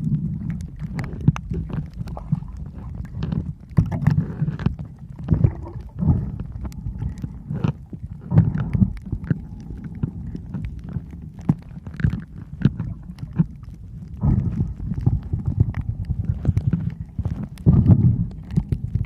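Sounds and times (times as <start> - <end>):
underwater water sloshing: 0.0 - 19.0.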